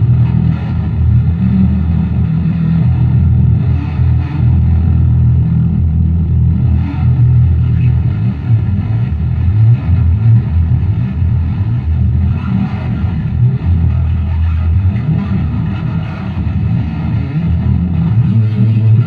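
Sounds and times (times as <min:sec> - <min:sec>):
fretless bass guitar line: 0:00.0 - 0:19.0.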